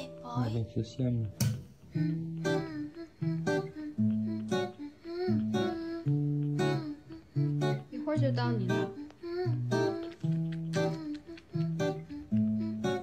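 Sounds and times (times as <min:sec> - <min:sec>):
acoustic guitar plucking a melody: 0:00.0 - 0:13.0.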